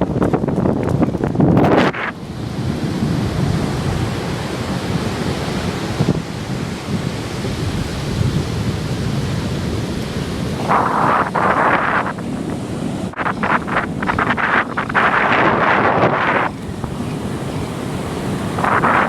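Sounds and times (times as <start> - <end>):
ocean surf rushing: 0.0 - 19.0
wind buffeting microphone: 0.0 - 19.0.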